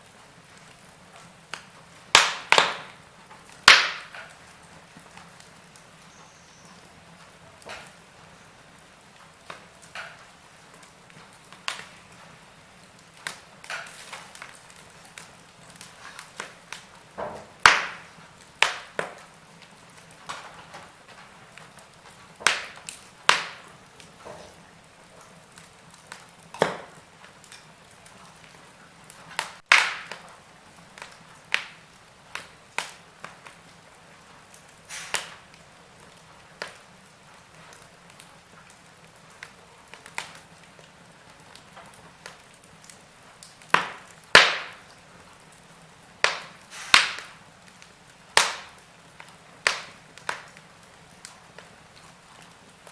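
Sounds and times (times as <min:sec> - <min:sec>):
faint steady hiss: 0:00.0 - 0:52.9
wood fire crackling: 0:00.0 - 0:52.9.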